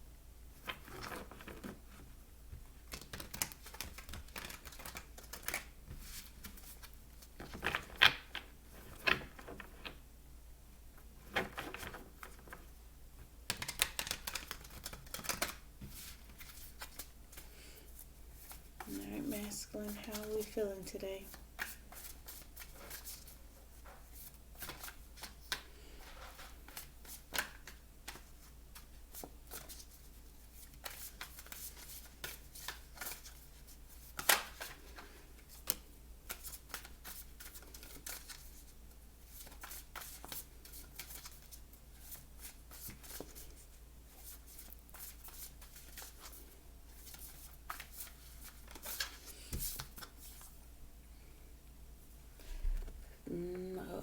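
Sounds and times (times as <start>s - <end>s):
cards being shuffled by hand: 2.8s - 10.0s, 13.5s - 50.6s.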